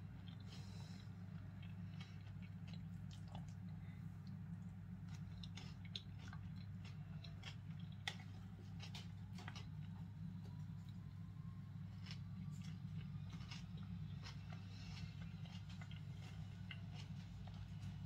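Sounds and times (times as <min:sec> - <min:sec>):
person chewing crunchy salad: 0:00.0 - 0:18.0
steady low hum: 0:00.0 - 0:18.0.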